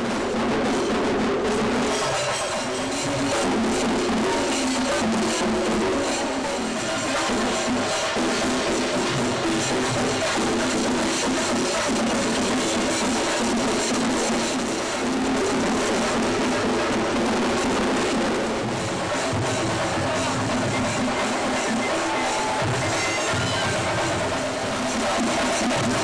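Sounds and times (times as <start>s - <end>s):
music with rapid drumming: 0.0s - 26.0s.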